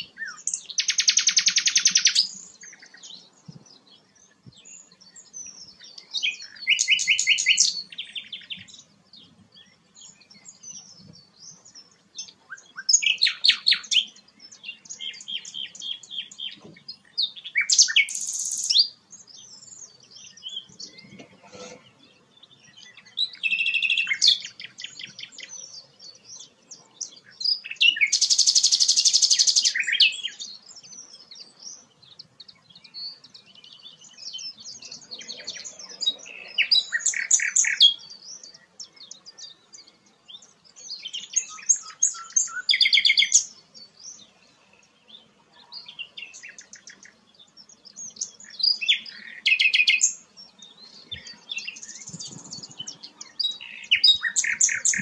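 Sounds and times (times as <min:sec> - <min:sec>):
songbird trilling and chattering: 0:00.0 - 0:31.9, 0:32.6 - 0:44.2, 0:45.7 - 0:55.0.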